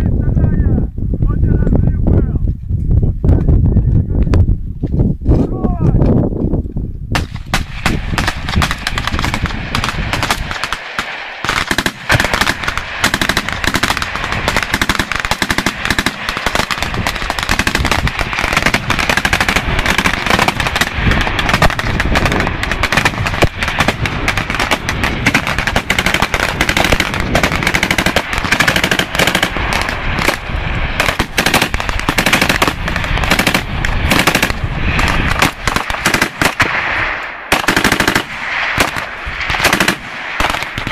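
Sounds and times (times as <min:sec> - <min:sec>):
rapid rifle fire: 0:07.2 - 0:40.9.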